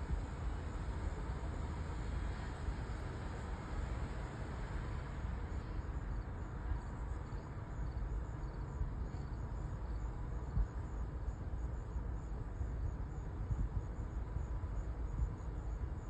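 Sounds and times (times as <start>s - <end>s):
crickets chirping: 0.0s - 16.0s
low street rumble: 0.0s - 16.0s.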